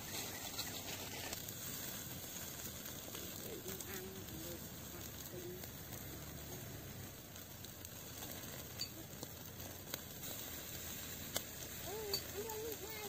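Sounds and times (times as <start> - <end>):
embers crackling and popping: 0.0 - 13.0
meat sizzling on a grill: 0.0 - 13.0.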